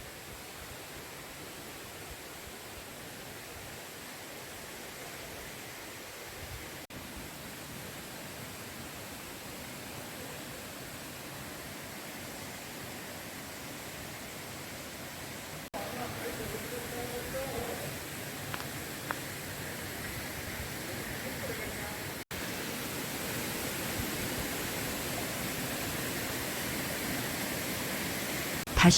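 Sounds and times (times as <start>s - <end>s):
stream rushing over rocks: 0.0s - 28.9s.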